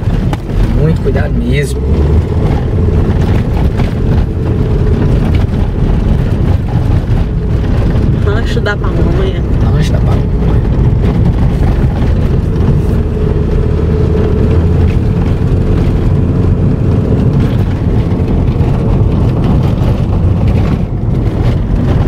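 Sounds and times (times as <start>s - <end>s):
car driving from inside cabin: 0.0s - 22.0s.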